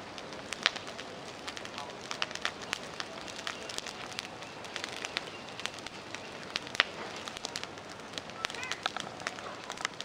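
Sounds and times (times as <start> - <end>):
fire popping: 0.0 - 10.0
fire rushing hiss: 0.0 - 10.0
palm fronds burning and crackling: 0.0 - 10.0.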